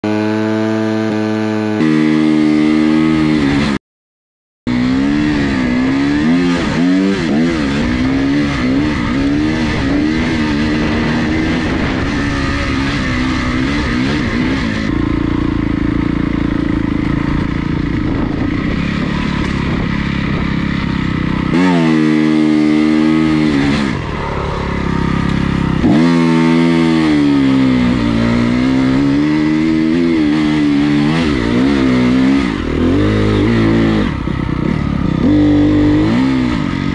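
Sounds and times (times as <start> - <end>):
dirt bike engine revving: 0.0 - 3.8, 4.7 - 36.9.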